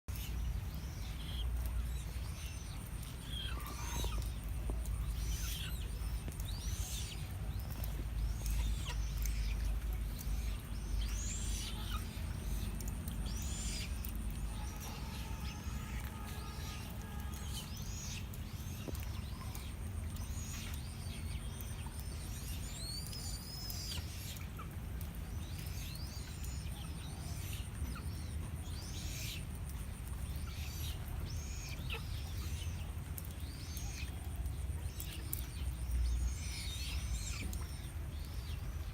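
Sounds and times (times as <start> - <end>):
birds chirping: 0.1 - 38.9
low steady hum: 0.1 - 38.9.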